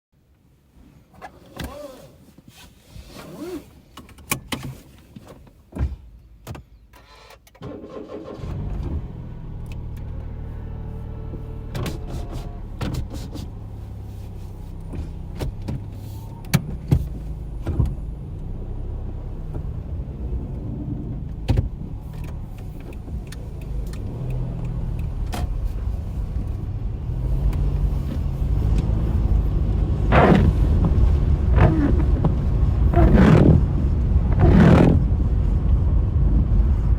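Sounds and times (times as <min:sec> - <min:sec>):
car engine starting and running: 0:00.8 - 0:36.9.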